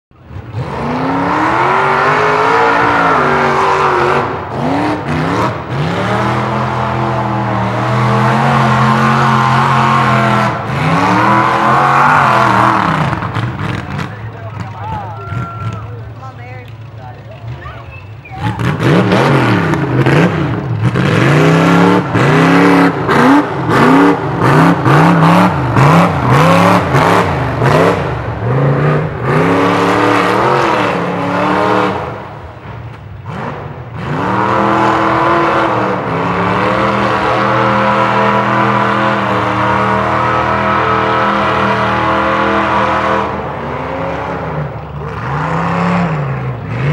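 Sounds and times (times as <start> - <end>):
truck engine revving hard: 0.1 - 46.9.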